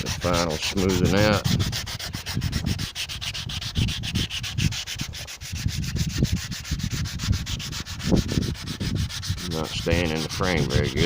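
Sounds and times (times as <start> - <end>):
sandpaper rubbing on metal: 0.0 - 11.0.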